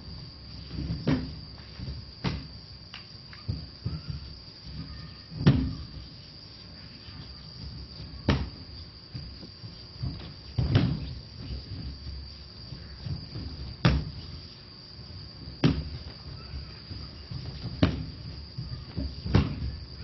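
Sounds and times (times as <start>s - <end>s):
crickets chirping: 0.0s - 20.0s
dull thuds of falls on mat: 0.5s - 2.6s, 3.4s - 6.1s, 7.1s - 20.0s
light shuffling: 2.8s - 20.0s.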